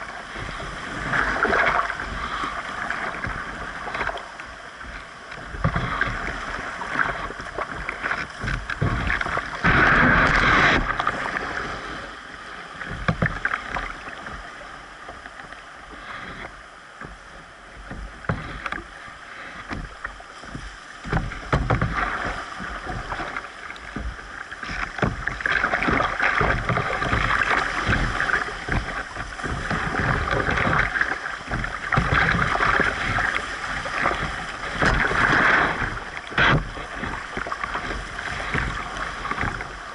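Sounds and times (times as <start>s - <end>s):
rapids rushing and splashing: 0.0s - 39.9s.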